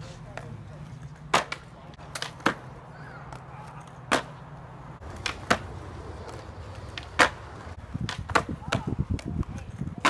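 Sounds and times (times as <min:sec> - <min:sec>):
skateboard wheels rolling on concrete: 0:00.0 - 0:10.0
skateboard clacking on concrete: 0:00.3 - 0:04.4, 0:05.0 - 0:10.0.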